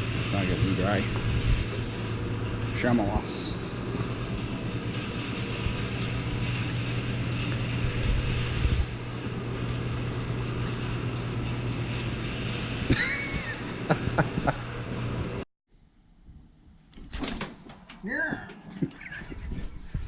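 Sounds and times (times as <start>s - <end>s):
mechanical drone with low hum: 0.0s - 20.0s.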